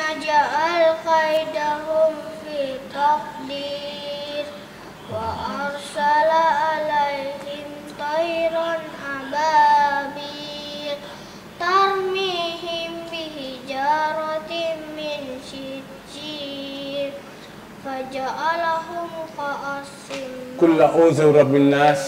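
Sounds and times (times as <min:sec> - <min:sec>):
boy reciting in melodic chant: 0:00.0 - 0:22.0.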